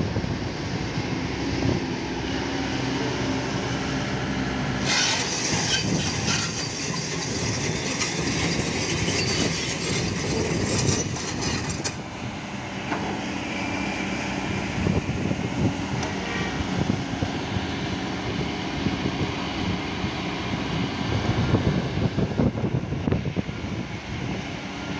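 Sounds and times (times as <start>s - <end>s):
heavy diesel engines under load: 0.0s - 24.9s.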